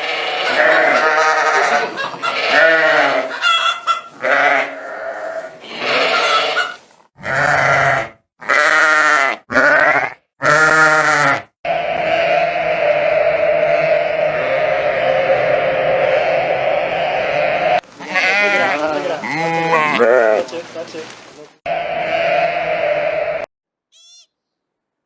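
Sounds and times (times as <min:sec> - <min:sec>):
animals bleating: 0:00.0 - 0:23.4.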